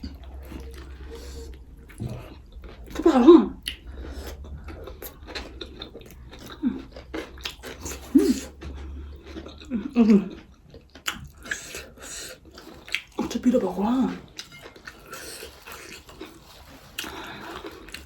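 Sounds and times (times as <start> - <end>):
chewing and biting food: 0.0 - 13.4, 14.1 - 18.0.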